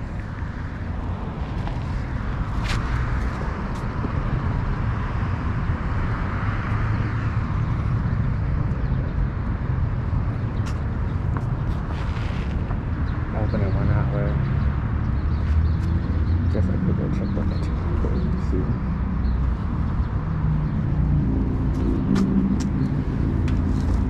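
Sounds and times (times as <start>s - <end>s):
traffic noise: 0.0s - 24.0s
wind rumbling on microphone: 0.0s - 24.0s.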